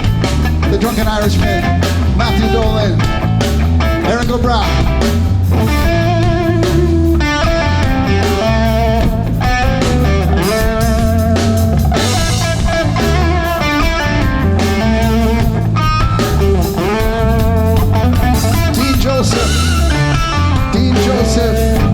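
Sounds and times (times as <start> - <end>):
bass guitar: 0.0 - 21.9
drums: 0.0 - 21.9
electric guitar line: 0.0 - 21.9.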